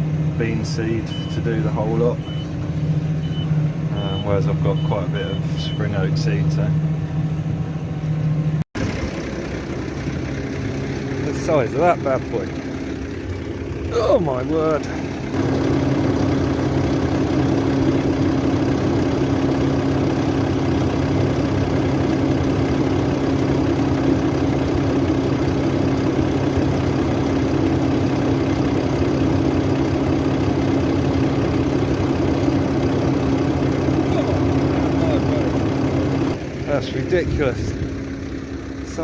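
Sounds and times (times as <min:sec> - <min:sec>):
tractor diesel engine humming: 0:00.0 - 0:39.0.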